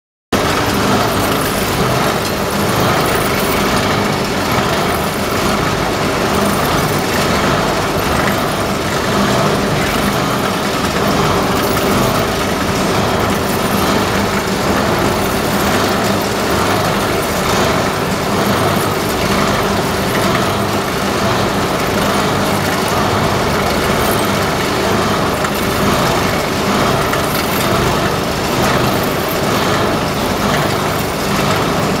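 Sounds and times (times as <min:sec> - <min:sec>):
machinery humming: 0:00.4 - 0:32.0.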